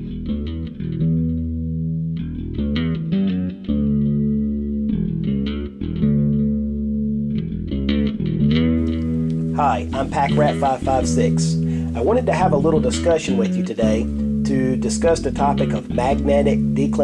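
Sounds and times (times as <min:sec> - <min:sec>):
guitar and bass music: 0:00.0 - 0:17.0.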